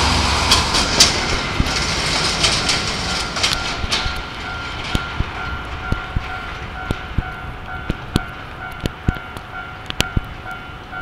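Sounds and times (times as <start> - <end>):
diesel locomotive running: 0.0 - 11.0
wheels clicking over rail joints: 0.0 - 11.0.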